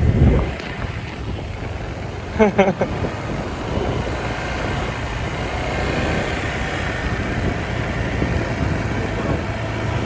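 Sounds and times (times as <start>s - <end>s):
motorbike engines: 0.0s - 10.0s
road traffic noise: 0.0s - 10.0s.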